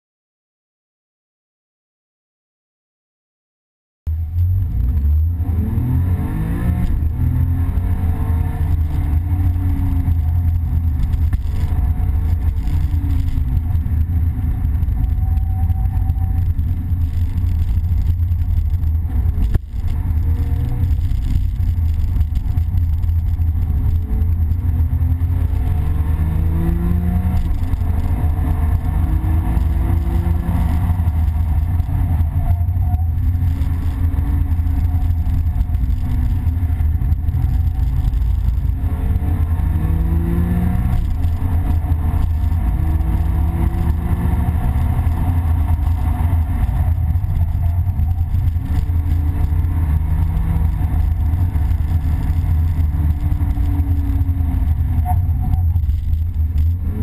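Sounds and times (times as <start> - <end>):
car engine revving: 4.1 - 57.0
road and wind rumble: 4.1 - 57.0.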